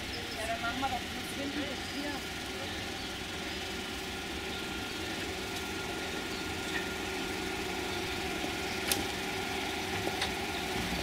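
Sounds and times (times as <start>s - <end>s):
car idling: 0.0s - 11.0s.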